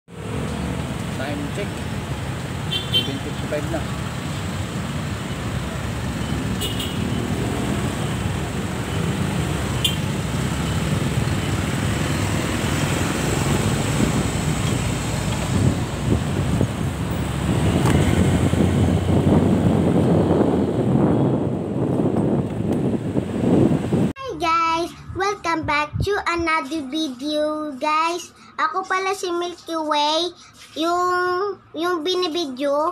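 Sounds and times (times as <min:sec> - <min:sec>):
road traffic rumble: 0:00.1 - 0:32.9.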